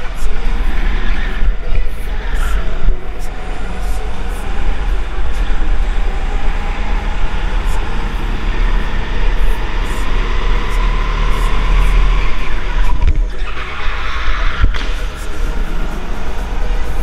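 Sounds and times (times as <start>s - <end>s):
faint engine whine: 0.0s - 17.0s
go-kart engine rumble: 0.0s - 17.0s.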